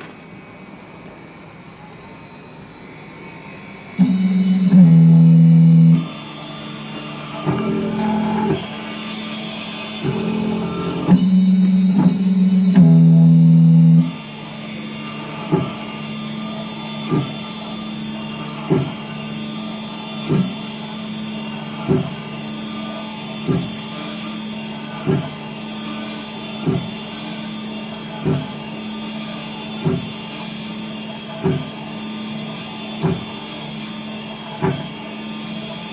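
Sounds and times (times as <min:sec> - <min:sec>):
engraving spindle hum: 0:02.6 - 0:35.8.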